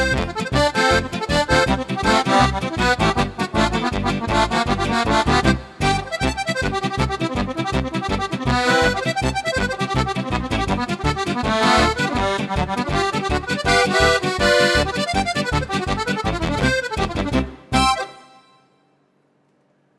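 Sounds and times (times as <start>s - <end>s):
steady bass beat: 0.0s - 18.0s
bass and guitar: 0.0s - 18.1s
button accordion playing folk tune: 0.0s - 18.6s.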